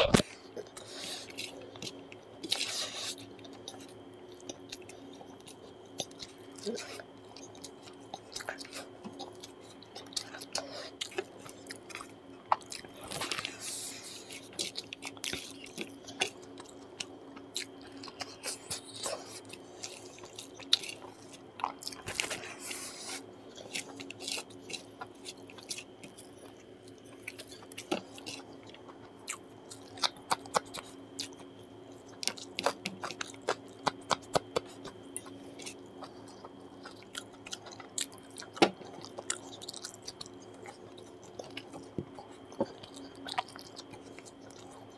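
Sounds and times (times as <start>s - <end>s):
wet chewing with clicks: 0.6s - 13.6s, 14.2s - 44.9s.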